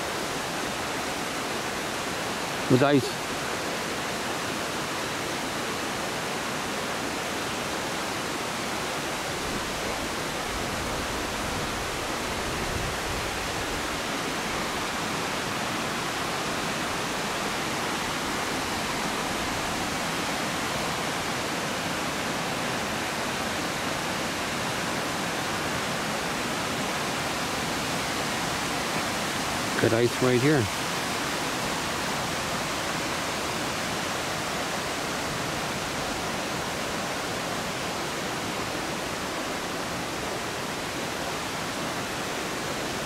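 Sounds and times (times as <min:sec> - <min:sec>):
creek rushing over waterfall: 0:00.0 - 0:43.0.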